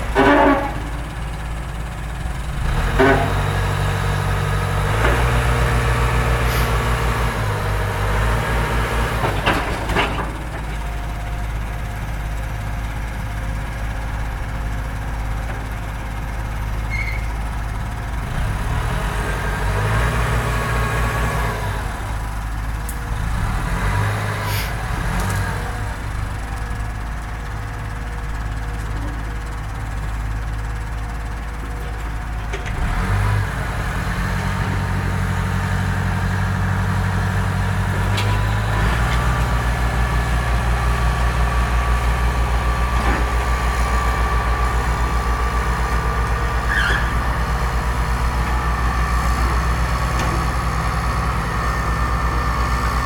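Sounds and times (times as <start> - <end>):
heavy diesel engines working: 0.0 - 53.0.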